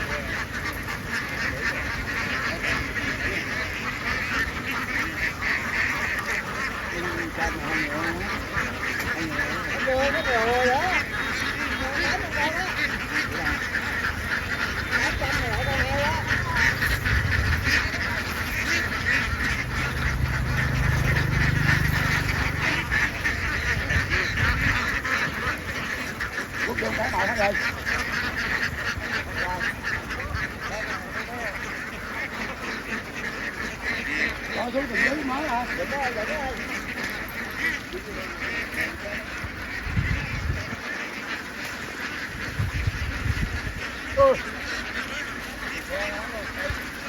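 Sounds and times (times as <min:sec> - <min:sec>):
flock of ducks quacking: 0:00.0 - 0:47.0.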